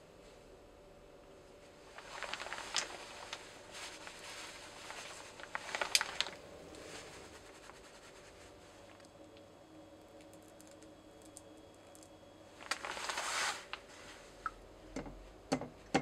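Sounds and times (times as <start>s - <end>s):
soft hiss: 0.0s - 15.4s.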